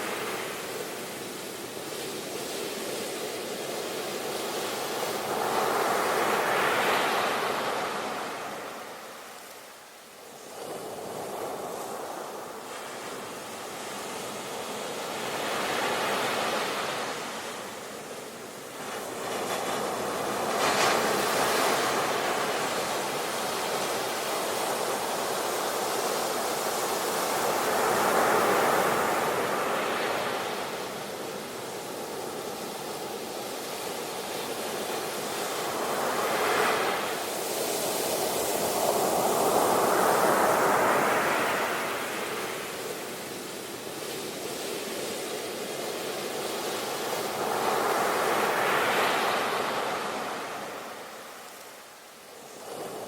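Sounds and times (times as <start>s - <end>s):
hiss of surf: 0.0s - 53.0s.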